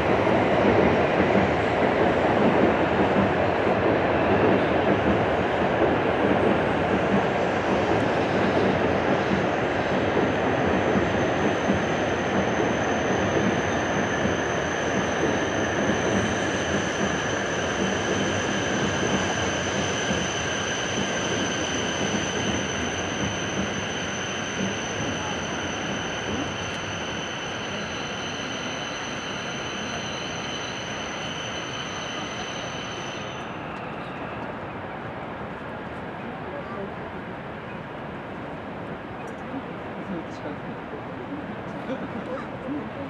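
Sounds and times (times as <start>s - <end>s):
train rumbling: 0.0s - 43.0s.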